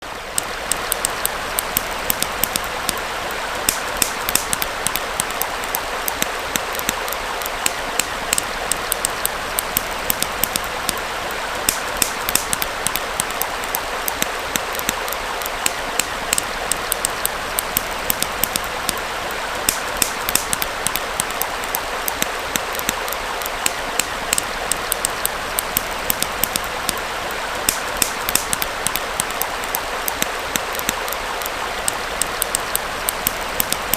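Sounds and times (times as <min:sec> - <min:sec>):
stream flowing: 0:00.0 - 0:33.9
campfire crackling: 0:00.3 - 0:33.9.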